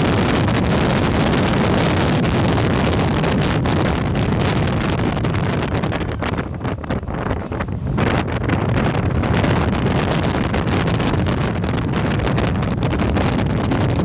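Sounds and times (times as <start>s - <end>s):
car engine: 0.0s - 14.0s
wind buffeting microphone: 0.0s - 14.0s.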